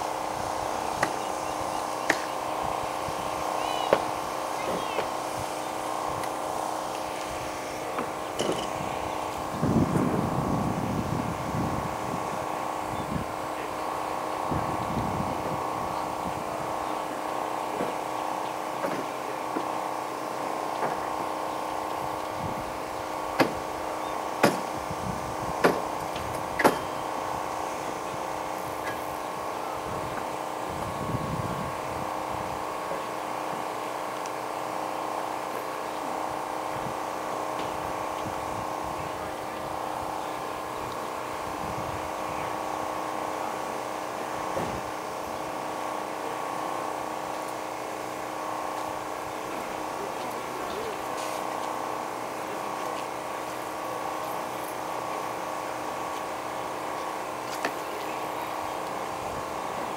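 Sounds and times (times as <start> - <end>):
mechanical drone: 0.0 - 59.9.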